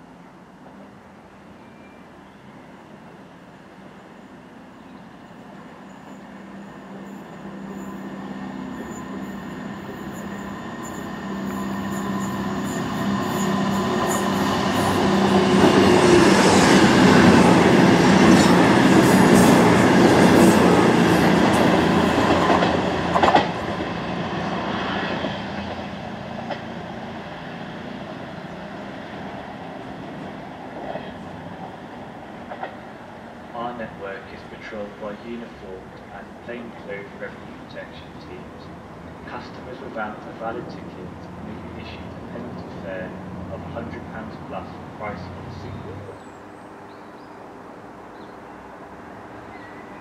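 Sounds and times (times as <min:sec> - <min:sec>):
diesel train passing close by: 0:00.0 - 0:50.0
distant train approaching: 0:00.0 - 0:50.0.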